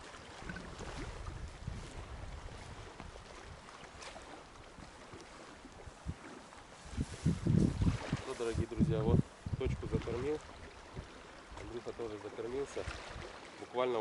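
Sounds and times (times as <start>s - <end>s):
wind rumbling on microphone: 0.0s - 11.9s.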